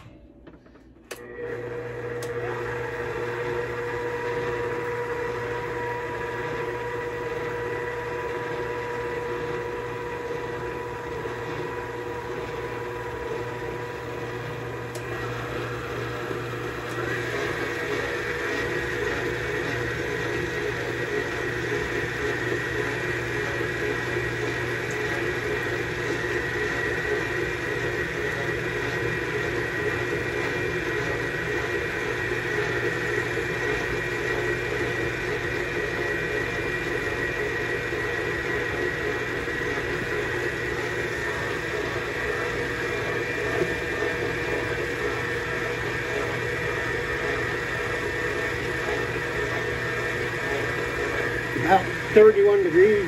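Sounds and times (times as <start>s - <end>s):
stand mixer motor humming: 0.0s - 53.0s.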